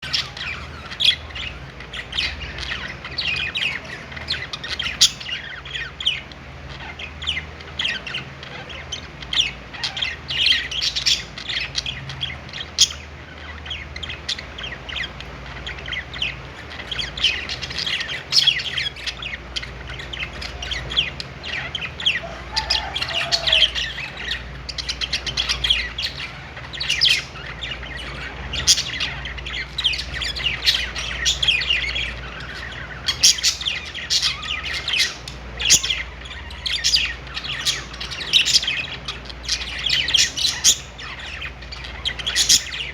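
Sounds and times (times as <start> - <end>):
budgerigars chirping: 0.0 - 42.9.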